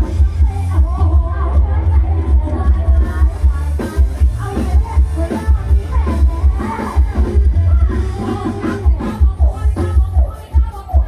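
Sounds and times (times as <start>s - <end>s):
loud live band music: 0.0s - 11.0s
woman singing into a microphone: 0.0s - 11.0s.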